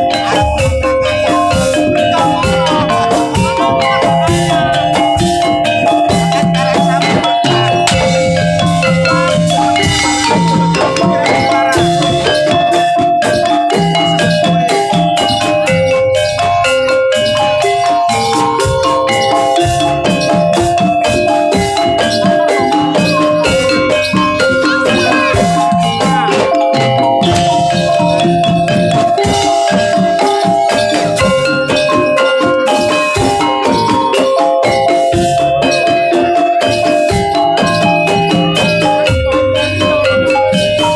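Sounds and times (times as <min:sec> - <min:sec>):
drum strokes: 0:00.0 - 0:40.9
gamelan music: 0:00.0 - 0:40.9
metal mallet instruments melody: 0:00.0 - 0:40.9
tuned metal percussion ringing: 0:00.0 - 0:40.9.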